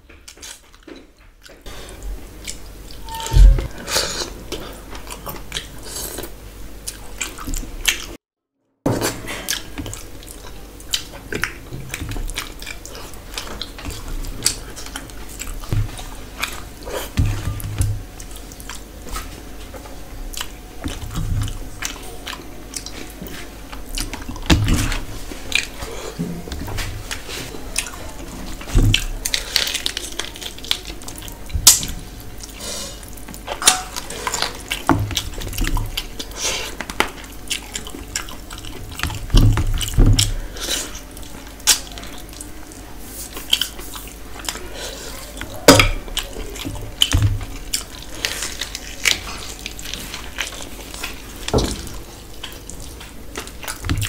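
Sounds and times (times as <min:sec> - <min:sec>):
wet chewing: 0:00.3 - 0:08.2, 0:09.0 - 0:54.0.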